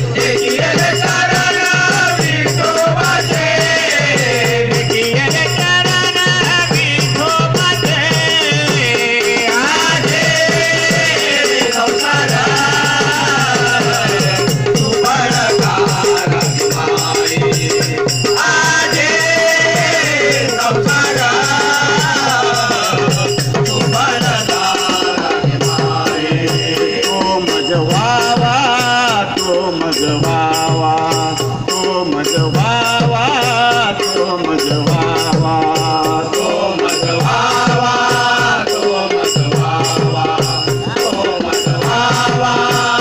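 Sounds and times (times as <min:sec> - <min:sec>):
jingling percussion: 0:00.0 - 0:43.0.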